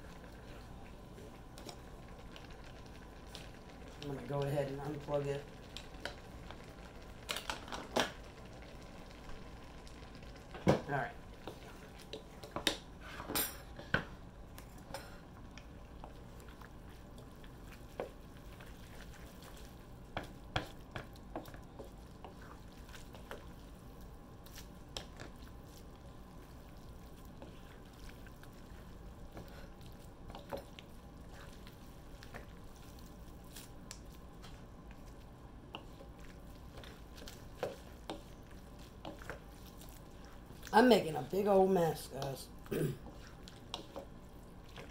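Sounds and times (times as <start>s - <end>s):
wooden utensils stirring pasta: 0.0s - 9.0s, 9.8s - 44.9s.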